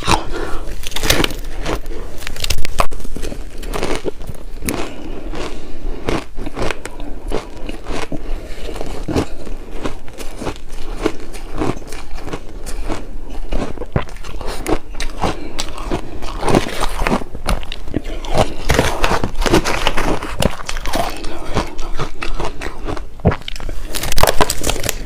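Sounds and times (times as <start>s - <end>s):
shaved ice being chewed: 0.0s - 25.0s.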